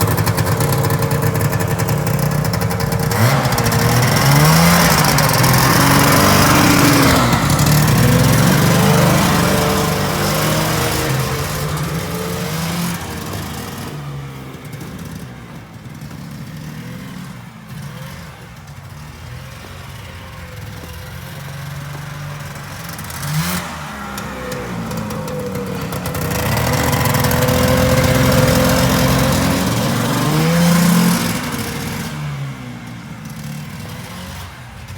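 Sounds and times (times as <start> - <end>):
two-stroke snowmobile engine revving: 0.0 - 34.9.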